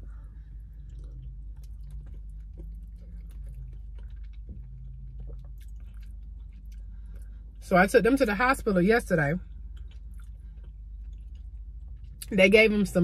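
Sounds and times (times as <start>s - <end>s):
person chewing wetly: 0.0s - 7.7s, 9.1s - 12.4s
low steady hum: 0.0s - 13.0s.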